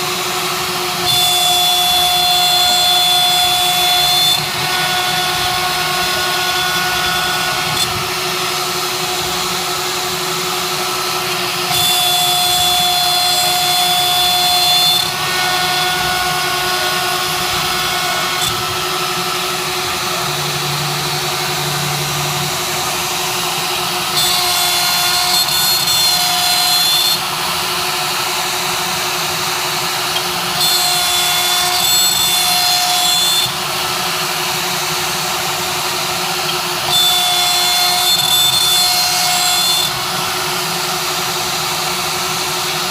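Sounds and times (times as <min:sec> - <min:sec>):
cnc machine humming: 0:00.0 - 0:42.9
high machine whine: 0:00.0 - 0:42.9.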